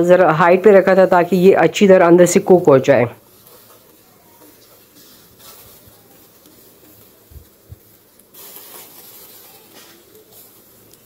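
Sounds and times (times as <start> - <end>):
grill hissing and sizzling: 0.0 - 11.0.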